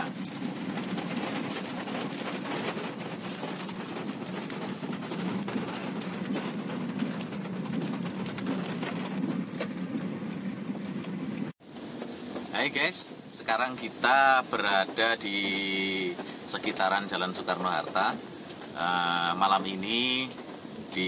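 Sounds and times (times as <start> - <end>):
car engine and road rumble: 0.0 - 21.0
raindrops ticking on car roof: 0.0 - 21.0.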